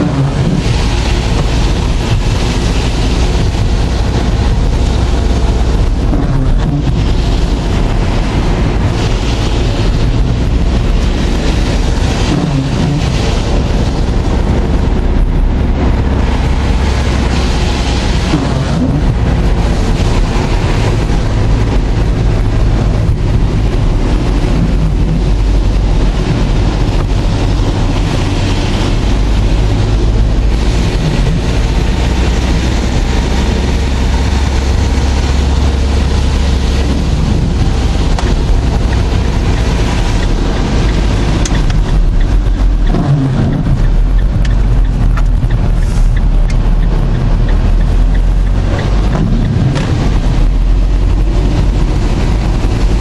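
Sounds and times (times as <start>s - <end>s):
storm wind buffeting microphone: 0.0s - 53.0s.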